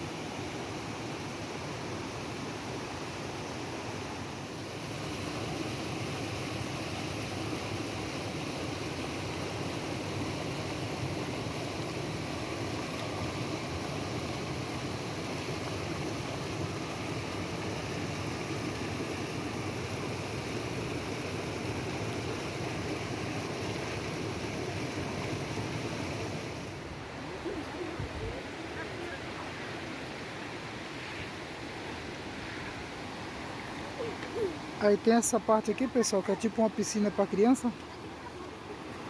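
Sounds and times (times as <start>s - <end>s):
waterfall rushing water: 0.0s - 39.0s.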